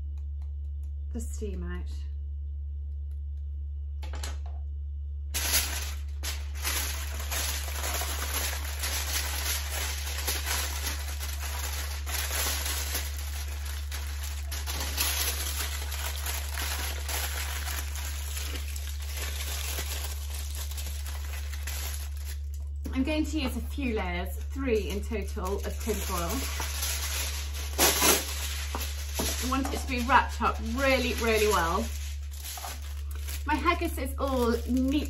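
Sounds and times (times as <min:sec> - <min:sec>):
tin foil crinkling: 0:05.3 - 0:35.0.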